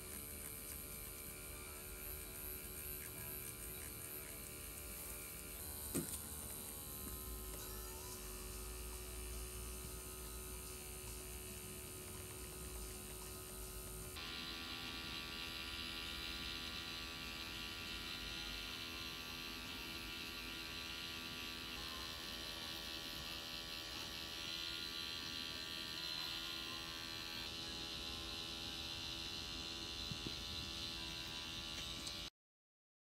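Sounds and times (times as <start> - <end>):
tattoo machine buzzing: 0.0 - 32.3.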